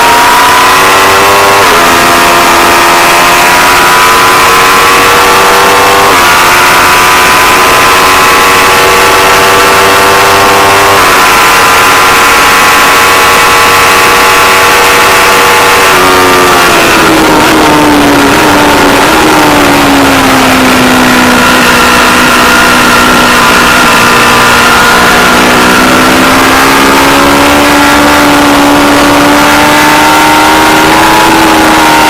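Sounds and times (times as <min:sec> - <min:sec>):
loud rushing noise: 0:00.0 - 0:32.0
motorcycle engine revving high: 0:00.0 - 0:32.0.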